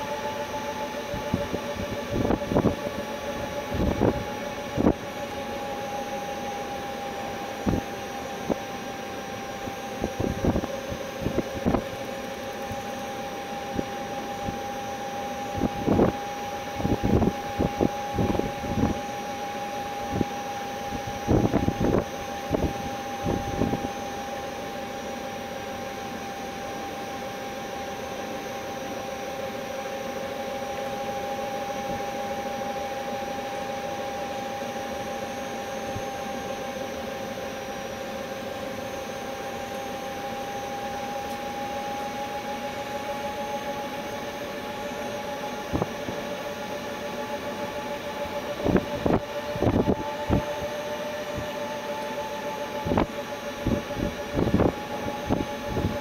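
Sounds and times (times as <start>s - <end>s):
electric motor whine: 0.0s - 56.0s.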